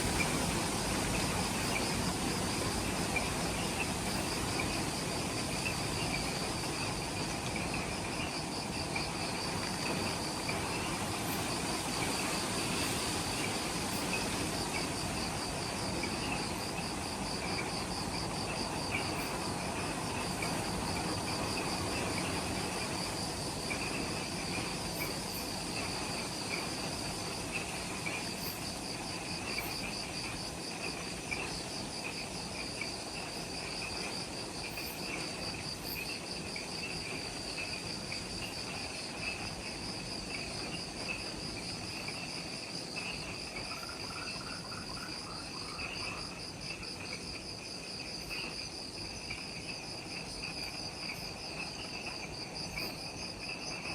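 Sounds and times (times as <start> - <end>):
lower chirping insect trill: 0.0 - 53.9.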